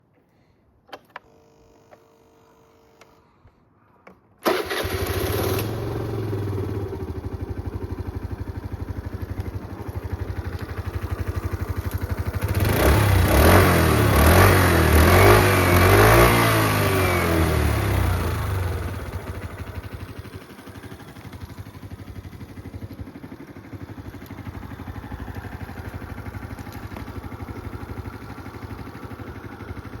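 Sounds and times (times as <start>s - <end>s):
scooter engine starting and revving: 4.4s - 30.0s.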